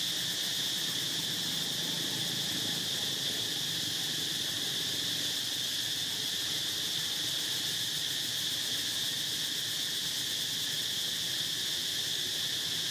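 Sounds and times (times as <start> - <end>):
insect chorus: 0.0 - 12.9.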